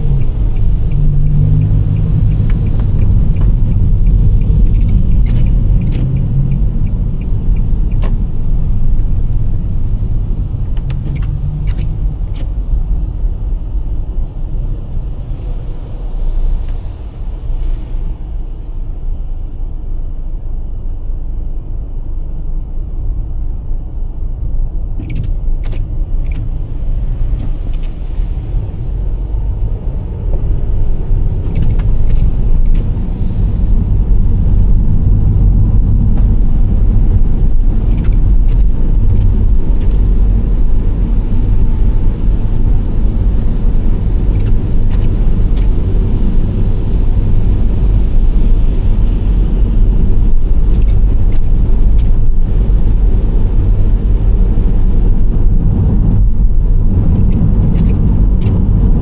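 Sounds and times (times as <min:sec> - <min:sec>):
car engine and tyre road noise: 0:00.0 - 0:59.0.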